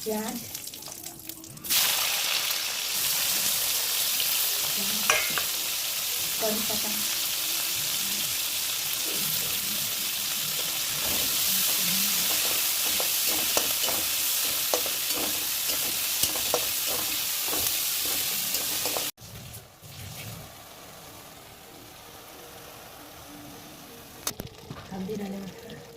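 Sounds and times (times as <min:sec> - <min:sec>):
onions sizzling in hot oil: 0:00.0 - 0:24.2.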